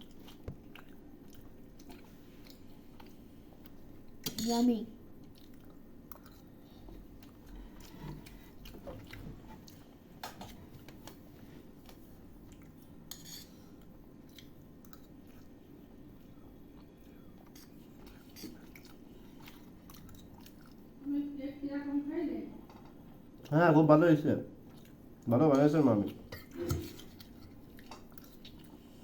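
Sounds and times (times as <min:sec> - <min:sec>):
people chewing: 0:00.0 - 0:04.2, 0:05.2 - 0:21.1, 0:24.6 - 0:29.0.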